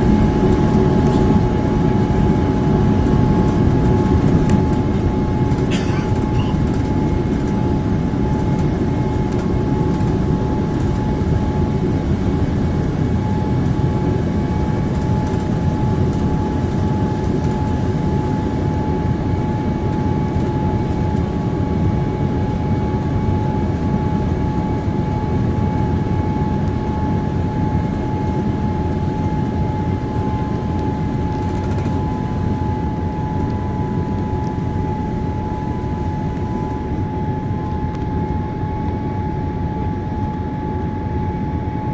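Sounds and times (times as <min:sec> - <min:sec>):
airflow and engine rush: 0:00.0 - 0:41.9
constant high whine: 0:00.0 - 0:41.9.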